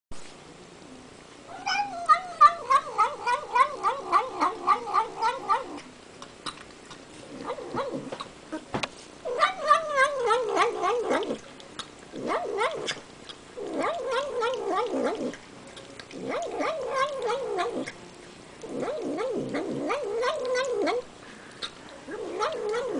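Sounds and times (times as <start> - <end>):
cat pulsing yowl while eating: 1.5 - 22.9.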